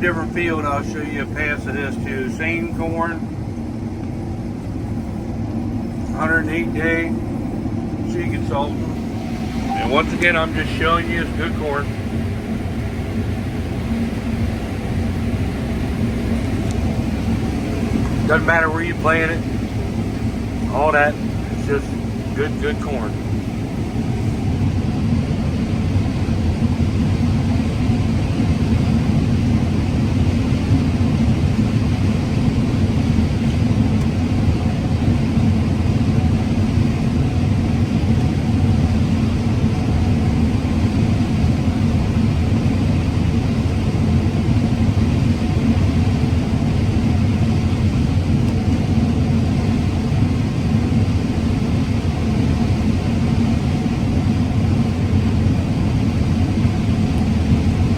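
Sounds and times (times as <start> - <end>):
combine harvester droning: 0.0 - 57.9.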